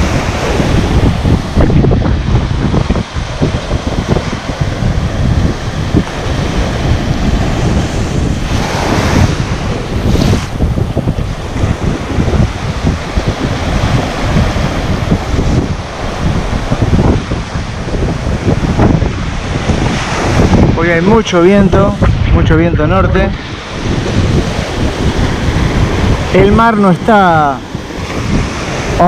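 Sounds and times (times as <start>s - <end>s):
surf breaking on sand: 0.0s - 29.0s
wind buffeting microphone: 0.0s - 29.0s.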